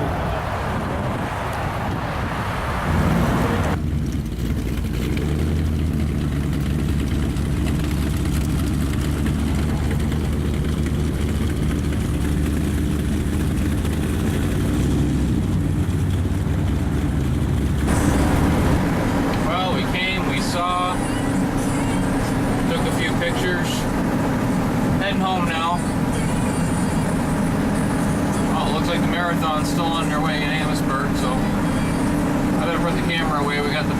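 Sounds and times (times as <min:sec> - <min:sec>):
pickup engine droning: 0:00.0 - 0:33.9.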